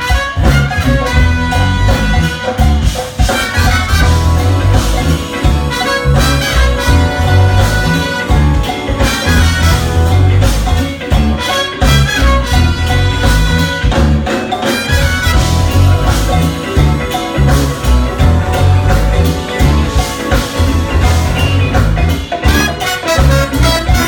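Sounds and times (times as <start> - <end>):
jazz fusion band playing live: 0.0 - 24.0.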